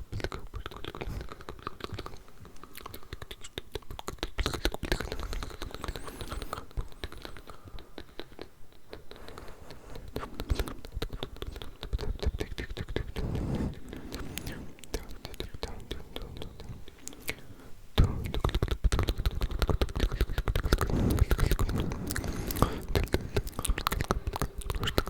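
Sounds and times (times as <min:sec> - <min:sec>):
wet mouth clicks and smacks: 0:00.1 - 0:09.4, 0:10.1 - 0:25.0.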